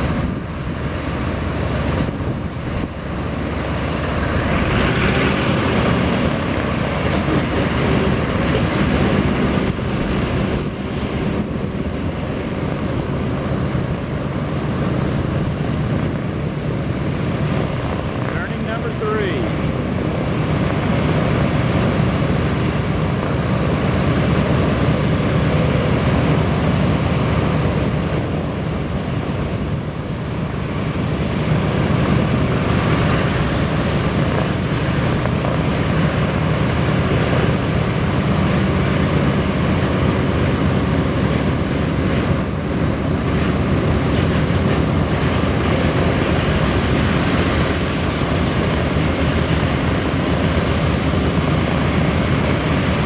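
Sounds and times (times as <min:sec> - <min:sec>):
radial aircraft engines running: 0:00.0 - 0:53.0.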